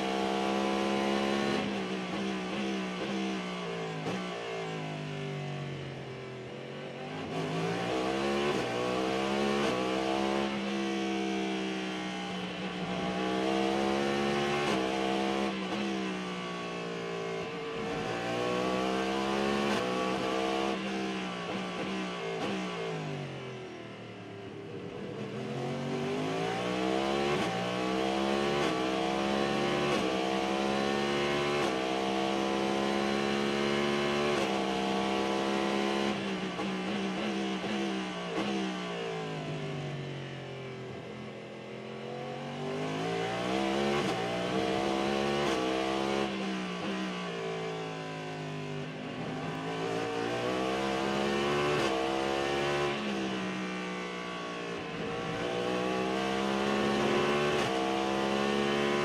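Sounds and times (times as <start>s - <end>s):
racing car engine revving: 7.0s - 16.6s, 17.3s - 23.4s, 24.8s - 39.7s, 42.1s - 59.0s.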